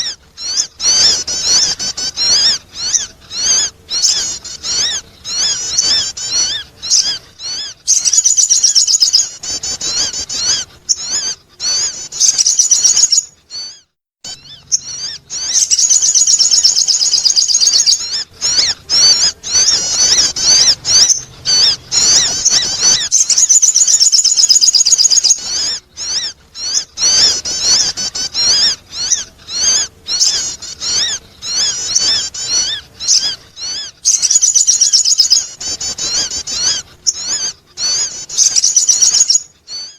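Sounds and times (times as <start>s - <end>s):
bird chattering chirps: 0.0s - 39.9s.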